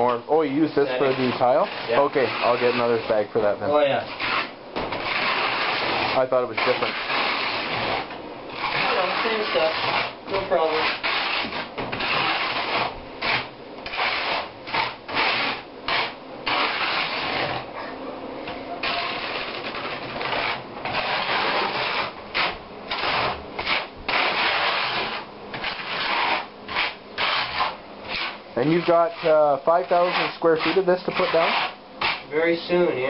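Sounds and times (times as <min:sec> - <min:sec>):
trowel scraping mortar: 0:00.9 - 0:03.2, 0:04.0 - 0:17.7, 0:18.8 - 0:32.3.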